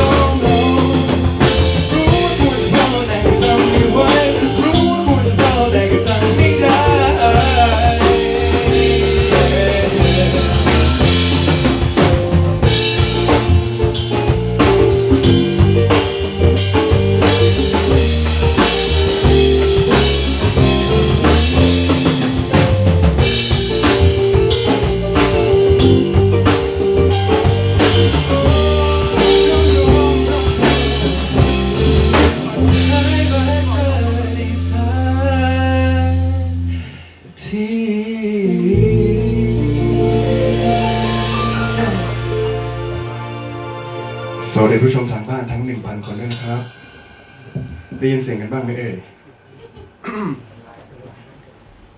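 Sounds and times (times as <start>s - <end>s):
held chords: 0.0s - 36.8s, 38.5s - 45.3s
drum kit: 0.0s - 37.0s, 38.6s - 50.3s
pop band music: 0.0s - 37.4s, 38.3s - 45.4s.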